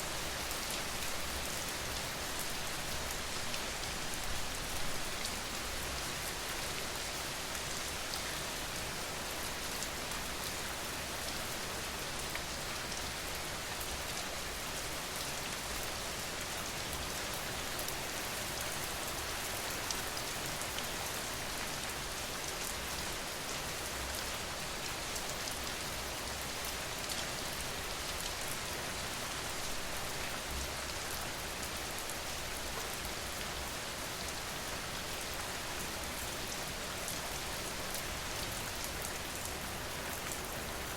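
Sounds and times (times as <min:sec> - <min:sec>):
continuous rain hiss: 0:00.0 - 0:40.9.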